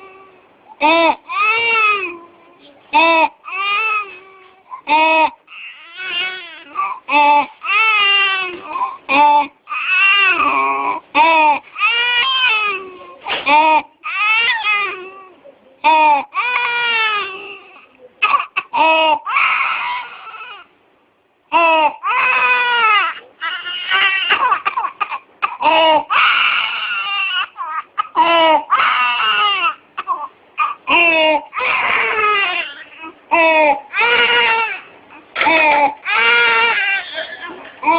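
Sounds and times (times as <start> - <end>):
infant crying: 0.0 - 2.4, 3.0 - 20.7, 21.5 - 37.9.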